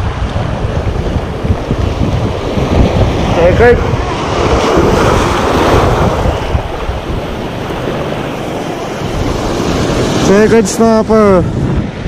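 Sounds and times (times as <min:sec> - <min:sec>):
sea surf washing over rocks: 0:00.0 - 0:12.0
wind buffeting microphone: 0:00.0 - 0:12.0.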